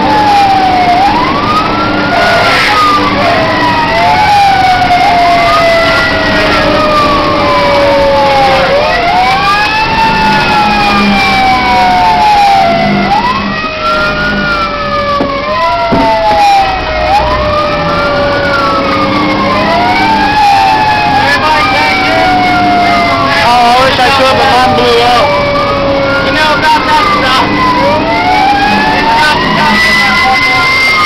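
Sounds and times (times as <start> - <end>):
moving truck rumble: 0.0 - 31.0
siren wailing: 0.0 - 31.0.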